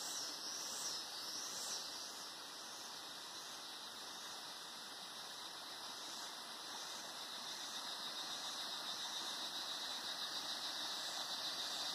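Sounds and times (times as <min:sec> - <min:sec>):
cicadas buzzing: 0:00.0 - 0:11.9.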